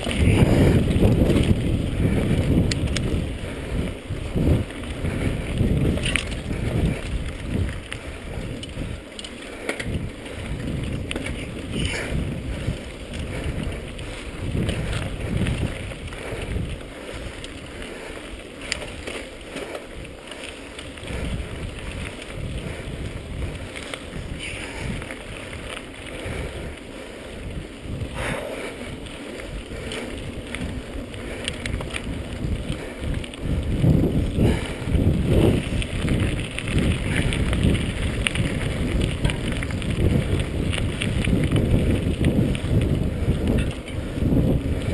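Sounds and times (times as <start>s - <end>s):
mountain bike rattling over bumps: 0.0s - 44.9s
wind buffeting microphone: 0.0s - 44.9s.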